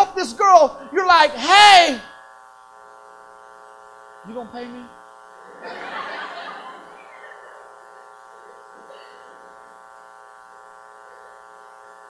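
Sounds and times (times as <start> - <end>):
electrical mains buzz: 0.0 - 12.0.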